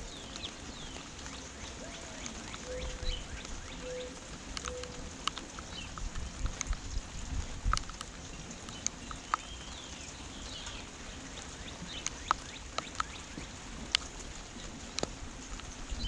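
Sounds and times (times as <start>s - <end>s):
steady rain: 0.0s - 16.0s
water drips landing close: 0.0s - 16.0s.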